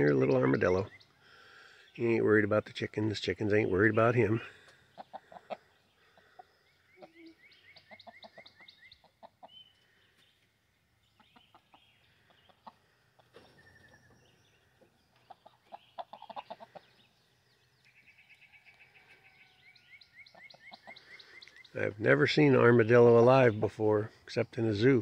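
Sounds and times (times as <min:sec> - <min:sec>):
chickens clucking: 0:00.0 - 0:18.0, 0:18.6 - 0:25.0.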